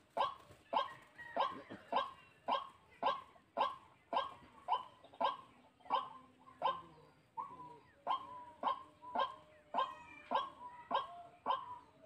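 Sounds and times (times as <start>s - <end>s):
faint overlapping bird calls: 0.0s - 12.0s.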